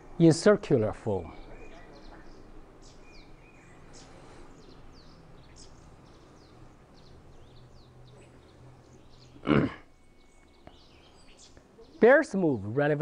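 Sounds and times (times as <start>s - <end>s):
birds chirping: 0.0s - 13.0s
faint low hum: 0.0s - 13.0s.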